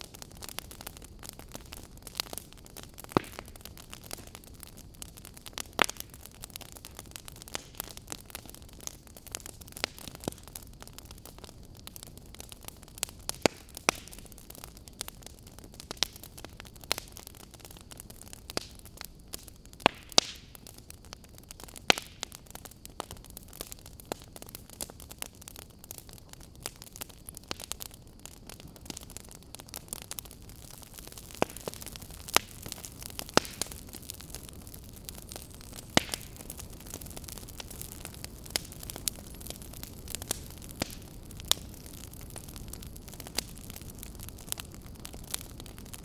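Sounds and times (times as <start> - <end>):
burning logs crackling and popping: 0.0 - 46.0
wood fire hissing: 0.0 - 46.0.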